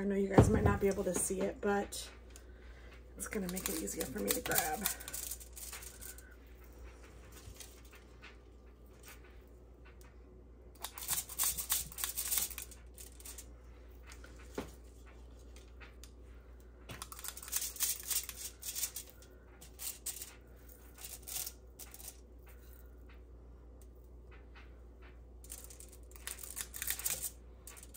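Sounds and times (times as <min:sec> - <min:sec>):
faint steady hum: 0:00.0 - 0:27.9
crackly rustling and light clicking: 0:00.9 - 0:27.9.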